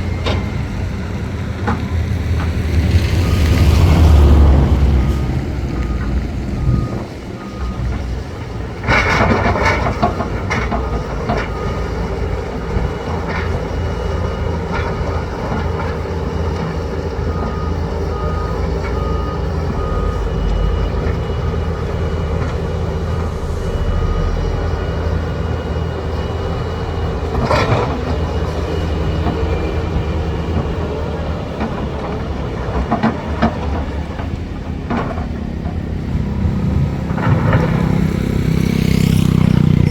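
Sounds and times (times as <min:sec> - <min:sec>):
diesel machinery running: 0:00.0 - 0:39.9
reversing alarm beeping: 0:00.0 - 0:39.9.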